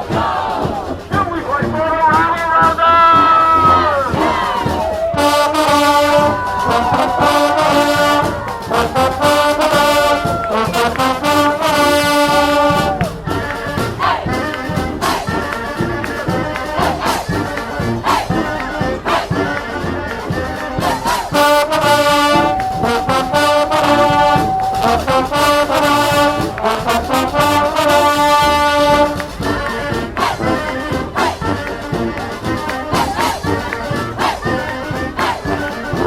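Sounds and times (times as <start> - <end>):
brass horns holding chords: 0.0 - 36.0
marching band drums: 0.0 - 36.0.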